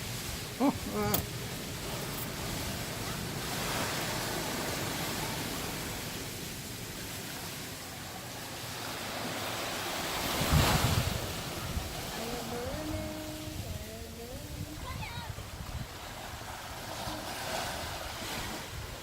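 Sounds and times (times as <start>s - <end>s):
surf washing onto beach: 0.0s - 19.0s.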